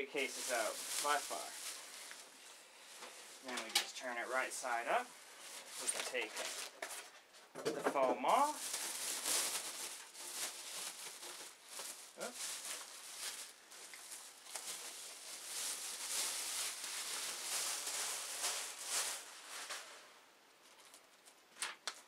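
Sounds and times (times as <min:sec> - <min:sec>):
plastic bag crinkling: 0:00.0 - 0:06.9, 0:08.2 - 0:20.1.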